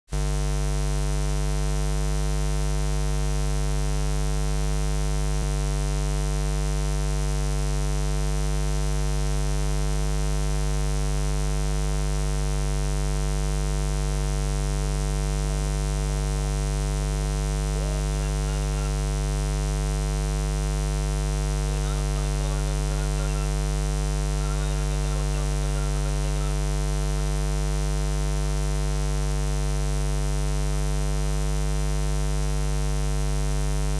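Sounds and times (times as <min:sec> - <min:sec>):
electrical mains hum: 0:00.2 - 0:31.5.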